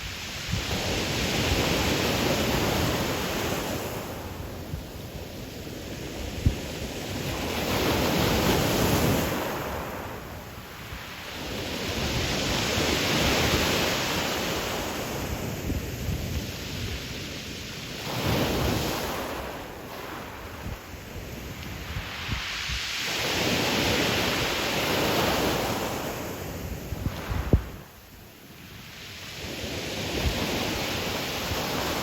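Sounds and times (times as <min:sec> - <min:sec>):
wind buffeting microphone: 0:00.0 - 0:17.4, 0:18.0 - 0:28.0
waves breaking on pebble beach: 0:00.0 - 0:28.1, 0:28.8 - 0:32.0.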